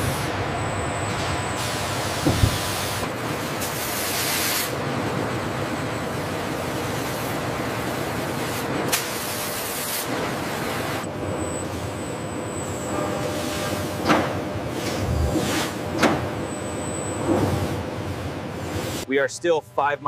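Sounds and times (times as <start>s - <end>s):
factory machinery running: 0.0s - 20.0s.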